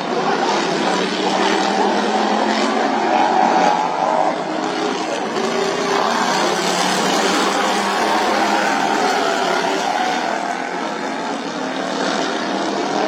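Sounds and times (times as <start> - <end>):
racing lawnmower engines revving: 0.0 - 13.0.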